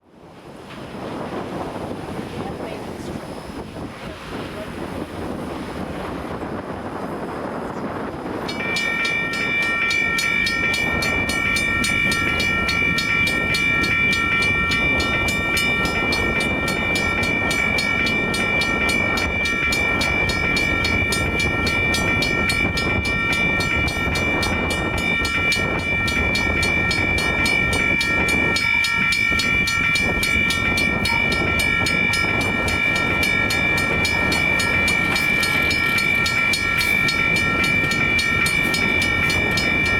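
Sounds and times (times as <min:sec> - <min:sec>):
railroad crossing bell ringing: 0:06.5 - 0:39.9.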